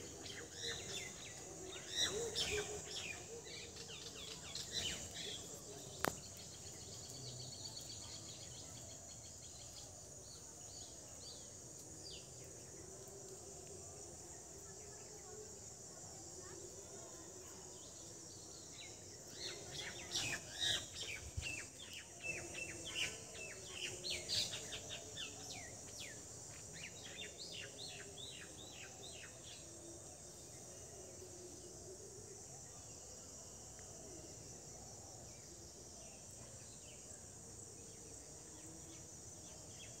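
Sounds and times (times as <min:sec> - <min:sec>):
insect chorus: 0:00.0 - 0:40.0.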